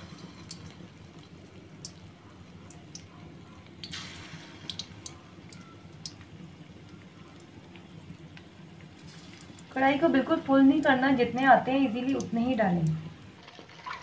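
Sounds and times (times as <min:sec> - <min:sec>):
chicken deep-frying in oil: 0:00.0 - 0:14.0
low steady hum: 0:00.0 - 0:14.0.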